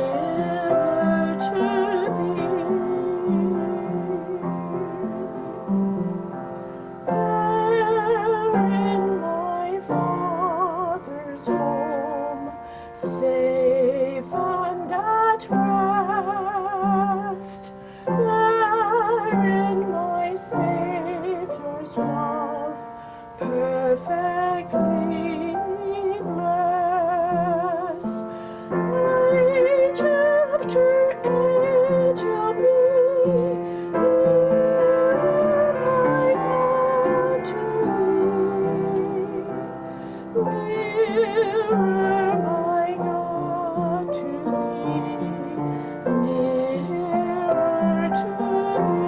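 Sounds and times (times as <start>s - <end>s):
woman singing with vibrato: 0.0s - 6.1s, 7.1s - 49.0s
piano accompaniment: 0.0s - 49.0s.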